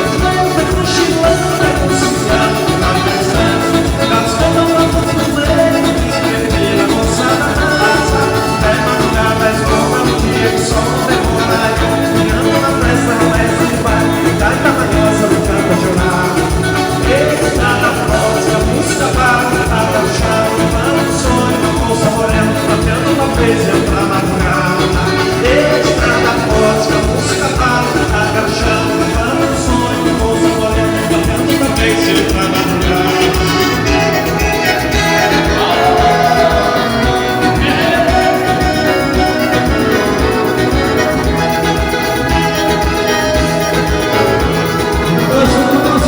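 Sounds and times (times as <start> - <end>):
live band playing latin dance music: 0.0 - 46.0.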